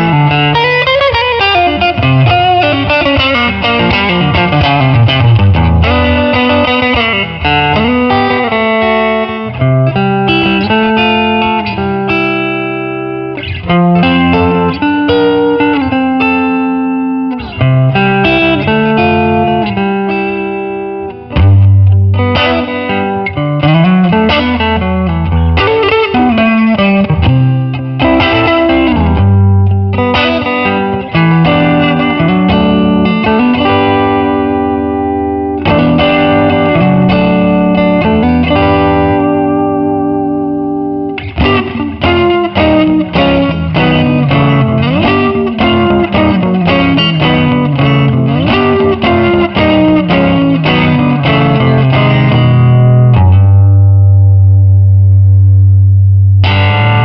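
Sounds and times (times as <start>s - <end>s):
overdriven electric guitar lead: 0.0s - 57.0s.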